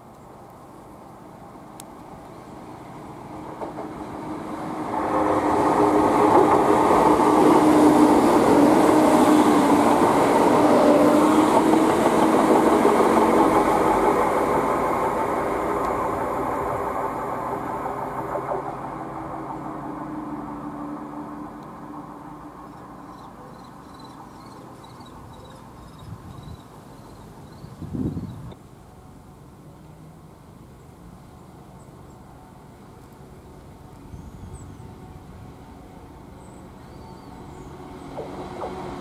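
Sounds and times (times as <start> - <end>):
train wheels on rails: 0.0 - 27.4, 34.8 - 39.0
diesel train engine hum: 0.0 - 39.0.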